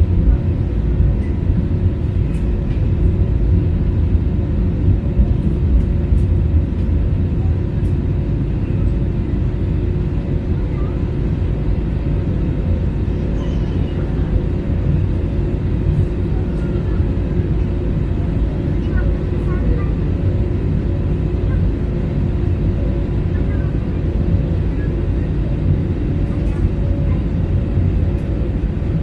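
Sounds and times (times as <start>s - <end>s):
constant hum: 0.0s - 29.0s
jet engine cabin rumble: 0.0s - 29.0s.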